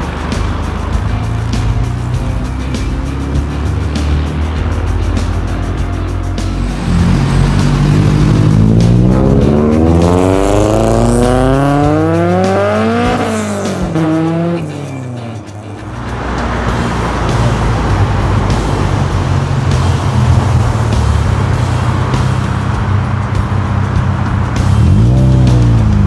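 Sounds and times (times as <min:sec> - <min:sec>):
car engine accelerating: 0:00.0 - 0:26.0
steady rushing noise: 0:00.0 - 0:26.0.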